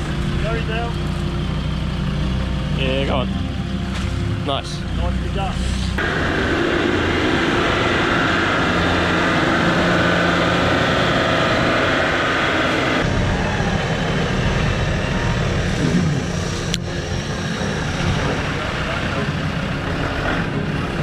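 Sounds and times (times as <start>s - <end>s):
truck engine under load: 0.0s - 21.0s.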